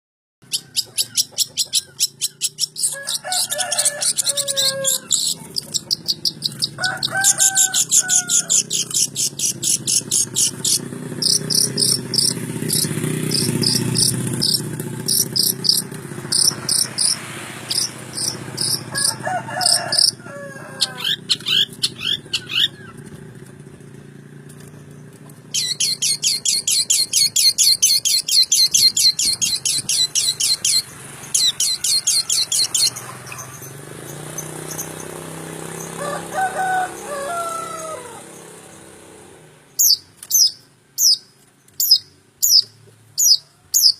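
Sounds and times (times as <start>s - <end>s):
bird chattering song: 0.4s - 20.2s, 20.8s - 23.0s, 25.5s - 35.2s, 39.8s - 43.9s
bird sweeping calls: 0.5s - 23.1s, 25.5s - 38.6s, 39.8s - 43.9s.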